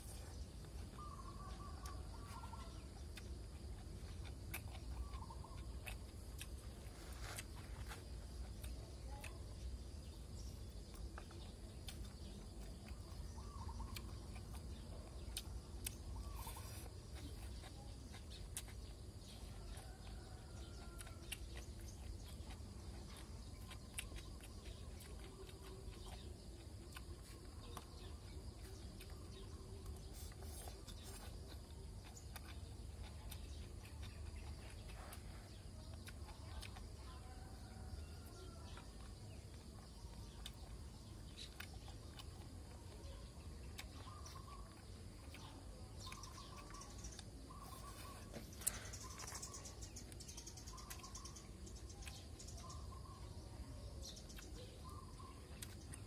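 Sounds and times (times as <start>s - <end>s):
chewing: 0.0s - 56.0s
faint bird chirps: 0.0s - 56.0s.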